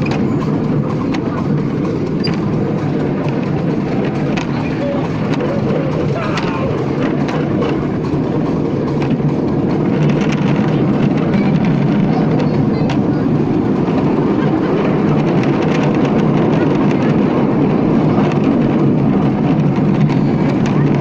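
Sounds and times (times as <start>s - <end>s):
miniature train rumble and rattle: 0.0s - 21.0s
train wheels clicking: 0.0s - 21.0s.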